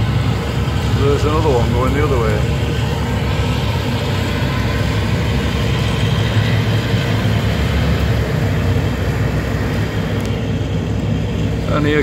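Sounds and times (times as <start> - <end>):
boat engine rumbling: 0.0 - 12.0
water noise: 0.0 - 12.0
wind: 0.0 - 12.0.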